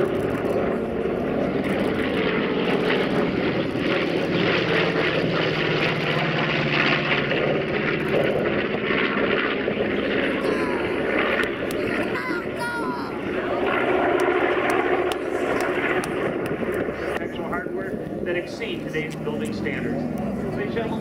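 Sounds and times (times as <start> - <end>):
propeller plane engines droning overhead: 0.0 - 21.0.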